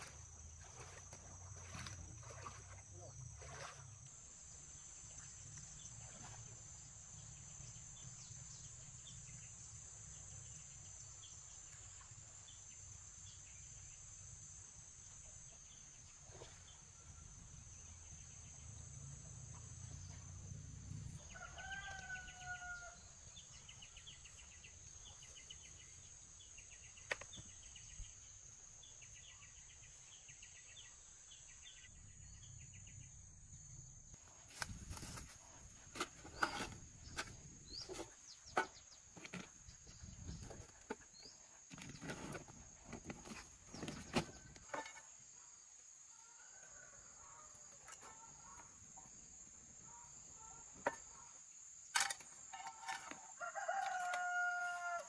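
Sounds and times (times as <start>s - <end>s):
insects droning and chirping: 0.0s - 55.0s.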